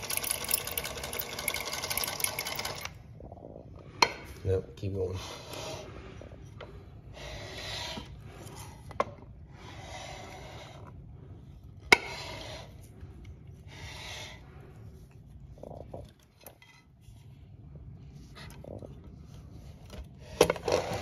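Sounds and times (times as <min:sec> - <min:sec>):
rubbing and scraping handling noise: 0:03.6 - 0:21.0.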